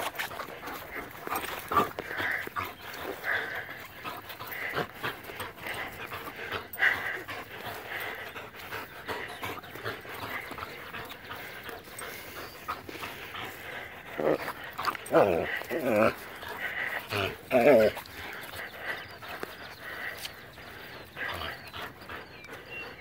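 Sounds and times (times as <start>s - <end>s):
dog panting and huffing: 0.0s - 23.0s.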